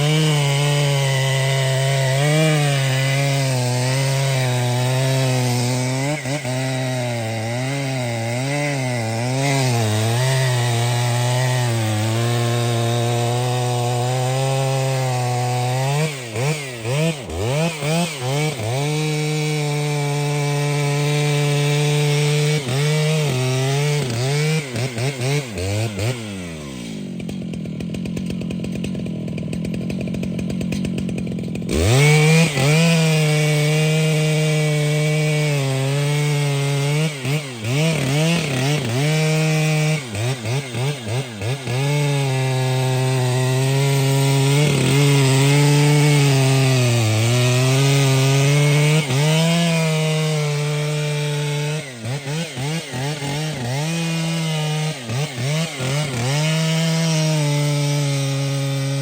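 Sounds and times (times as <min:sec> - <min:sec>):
chainsaw cutting under load: 0:00.0 - 0:59.0.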